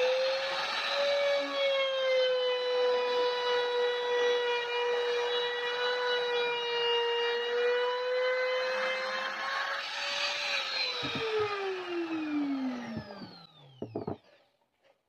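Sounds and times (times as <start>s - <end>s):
power tool motor whining: 2.3s - 14.4s.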